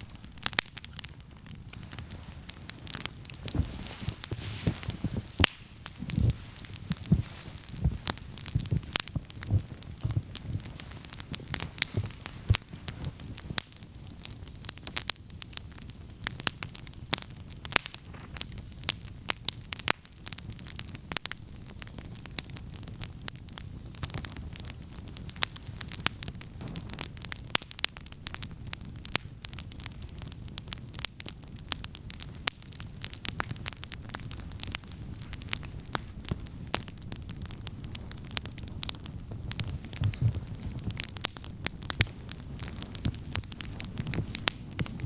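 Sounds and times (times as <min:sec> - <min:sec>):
campfire crackling and popping: 0:00.0 - 0:45.0
low rumble of flames: 0:00.0 - 0:45.0.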